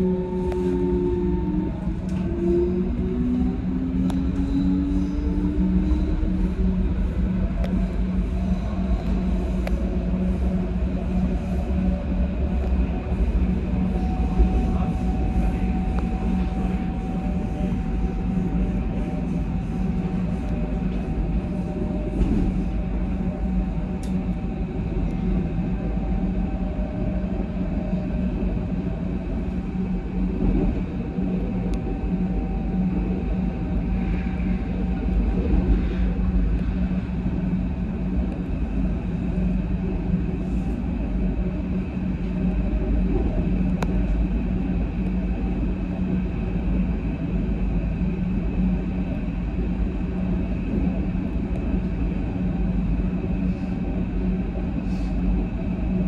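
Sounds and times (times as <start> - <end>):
constant low hum: 0.0 - 56.0
rumble of wheels on rails: 0.0 - 56.0.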